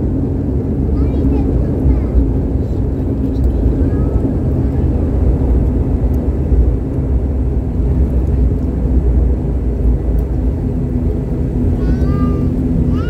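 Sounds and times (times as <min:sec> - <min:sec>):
turboprop engines rumbling: 0:00.0 - 0:13.0.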